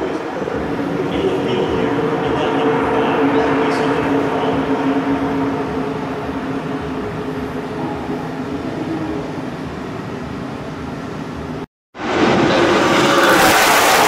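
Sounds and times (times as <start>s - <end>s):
rushing noise: 0.0s - 10.2s, 12.0s - 14.0s
vehicle engine drone: 0.0s - 14.0s.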